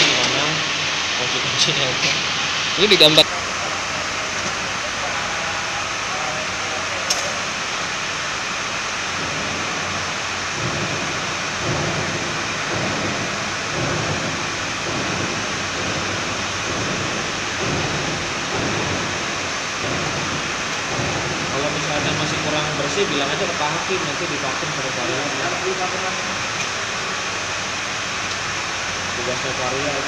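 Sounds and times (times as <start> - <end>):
steady rushing hiss: 0.0 - 30.0.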